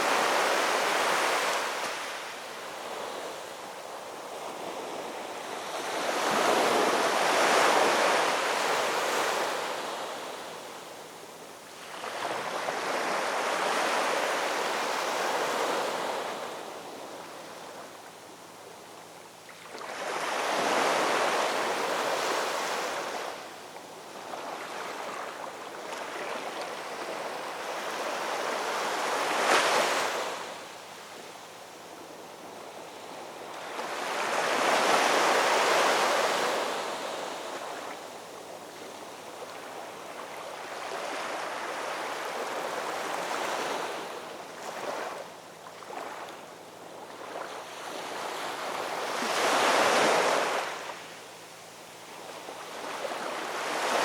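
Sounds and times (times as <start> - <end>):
ocean waves breaking and washing up: 0.0 - 11.2, 11.8 - 18.0, 19.7 - 31.2, 32.1 - 51.2, 52.1 - 54.0.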